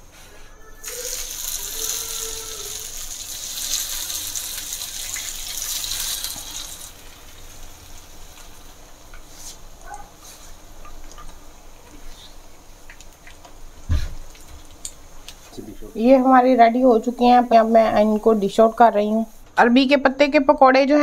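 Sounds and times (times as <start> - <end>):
hot oil sizzling: 0.8 - 19.6.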